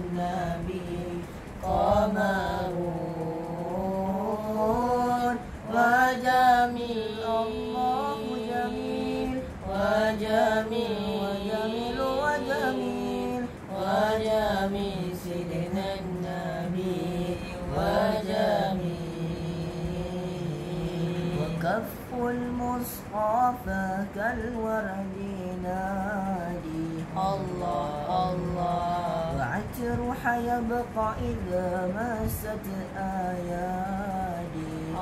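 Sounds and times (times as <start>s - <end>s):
boy singing unaccompanied: 0.0s - 35.0s.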